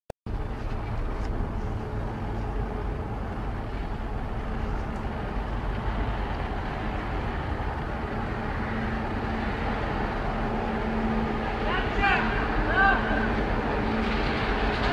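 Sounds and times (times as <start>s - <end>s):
ferry engines rumbling: 0.3s - 14.9s.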